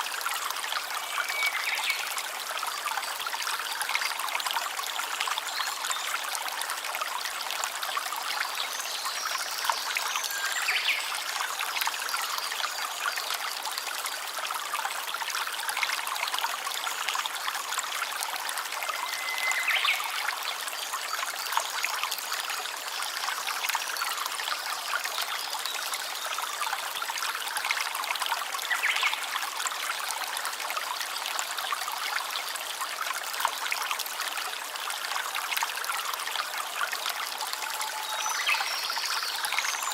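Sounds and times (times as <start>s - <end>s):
small stream babbling: 0.0s - 39.9s.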